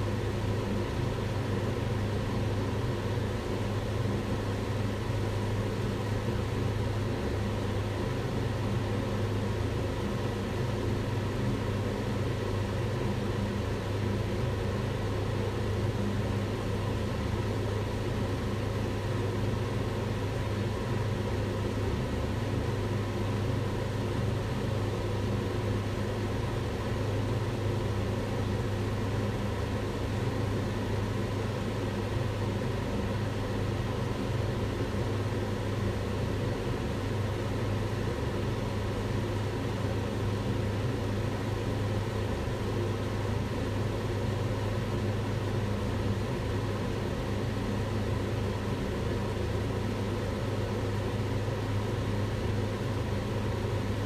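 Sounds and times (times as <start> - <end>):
range hood fan running: 0.0 - 54.0.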